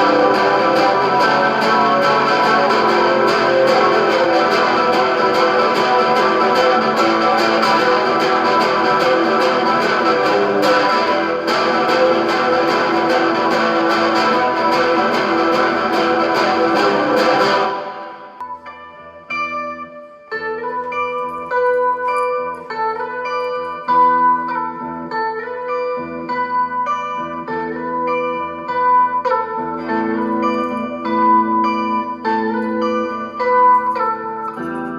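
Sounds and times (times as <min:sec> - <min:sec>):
electric guitar rapidly picked: 0:00.0 - 0:34.9.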